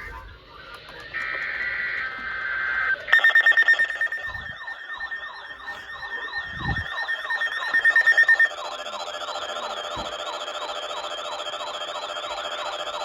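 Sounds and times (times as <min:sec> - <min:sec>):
falling electronic sweeps: 0:00.0 - 0:13.0
rapidly pulsing alarm beeps: 0:00.0 - 0:13.0
wavering high tone: 0:00.8 - 0:13.0
warbling two-pitch data tone: 0:01.1 - 0:13.0.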